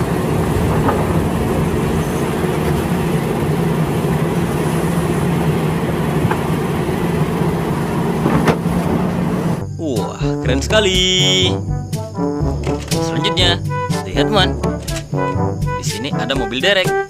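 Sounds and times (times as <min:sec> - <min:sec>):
excavator diesel engine droning: 0:00.0 - 0:16.6.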